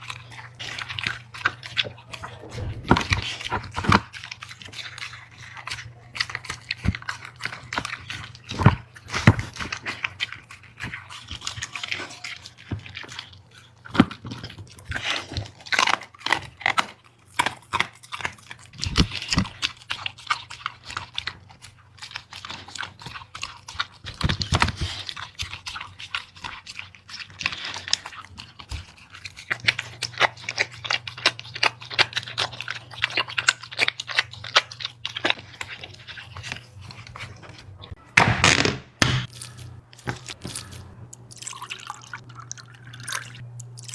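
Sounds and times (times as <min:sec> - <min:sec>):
dog chewing and crunching food: 0:00.0 - 0:38.0, 0:39.2 - 0:43.9.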